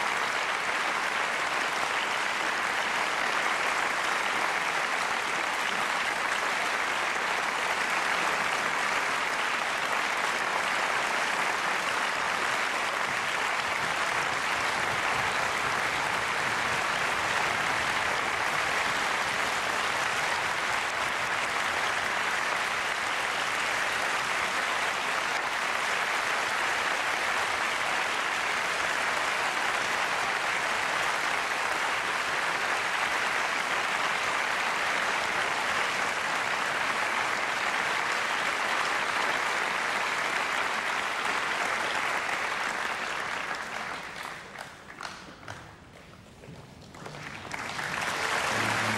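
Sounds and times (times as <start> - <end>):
audience applauding: 0.0 - 48.9.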